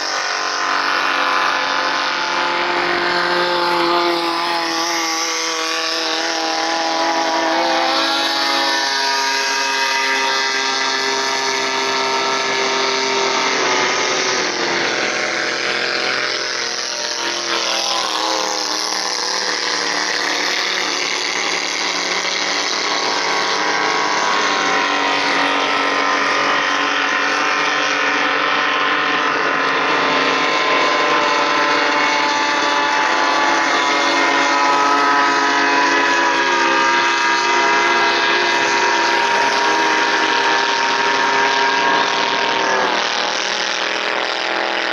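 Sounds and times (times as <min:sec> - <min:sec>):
speedboat engines at high revs: 0:00.0 - 0:44.9.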